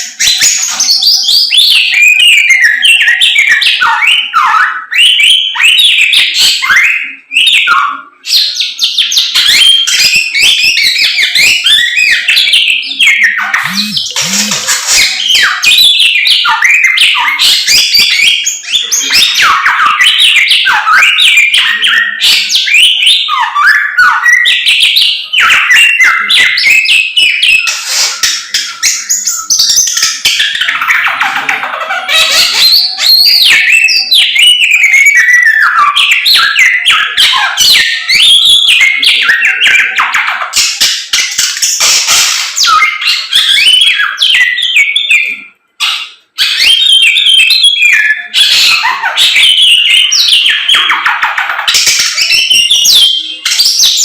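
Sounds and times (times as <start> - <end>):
bird singing whistled trills: 0.0 - 31.3, 32.1 - 54.0.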